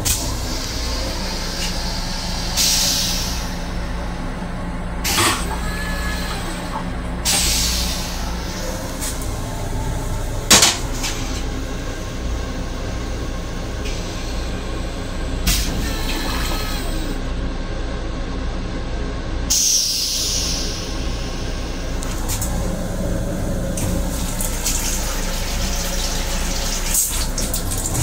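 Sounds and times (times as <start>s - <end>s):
railcar running rumble: 0.0s - 28.0s.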